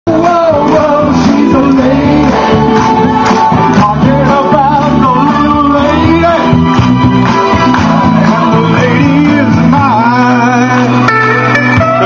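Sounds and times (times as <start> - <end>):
karaoke backing track over loudspeakers: 0.1 - 12.0
person singing: 0.1 - 12.0.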